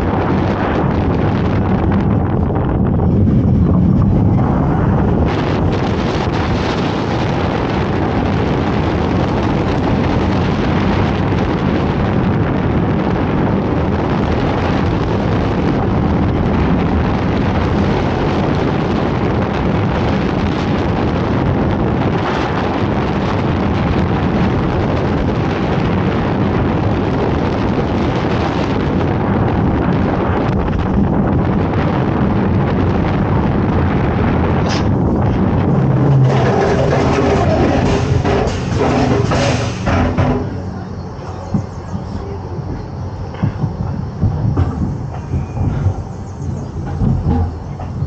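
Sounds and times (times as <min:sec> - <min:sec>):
roller coaster rumbling on track: 0:00.0 - 0:48.0
wind rushing over microphone: 0:00.0 - 0:48.0.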